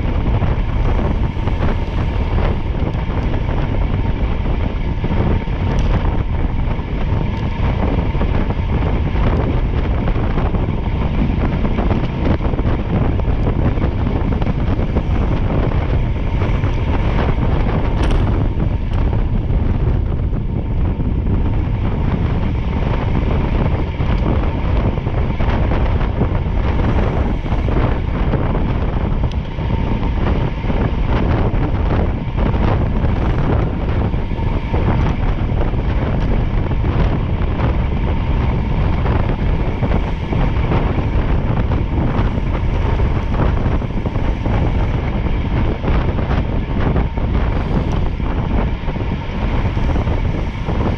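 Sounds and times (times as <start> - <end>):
low rumble: 0.0 - 50.9
wind buffeting microphone: 0.0 - 50.9.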